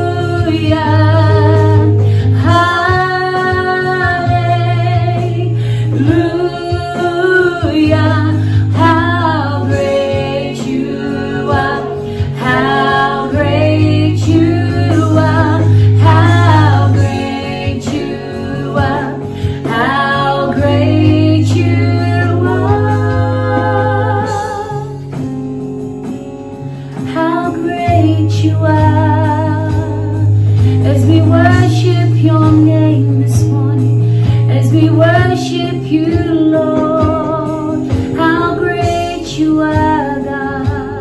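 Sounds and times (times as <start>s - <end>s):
woman singing into a microphone: 0.0s - 25.3s, 26.8s - 41.0s
instrumental accompaniment: 0.0s - 41.0s.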